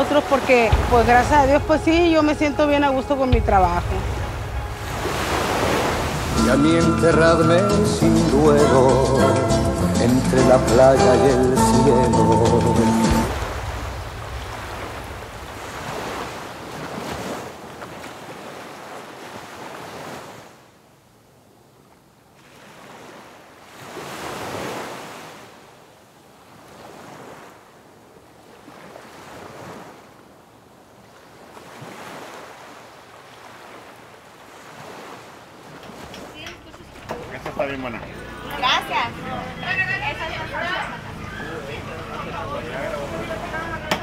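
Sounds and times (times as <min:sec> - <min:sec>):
ocean surf washing onto beach: 0:00.0 - 0:06.8, 0:13.0 - 0:20.7, 0:22.4 - 0:44.0.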